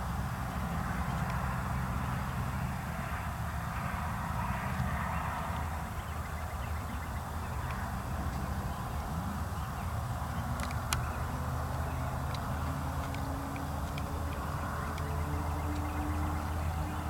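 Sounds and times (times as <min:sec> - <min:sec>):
faint bird calls: 0:00.5 - 0:17.0.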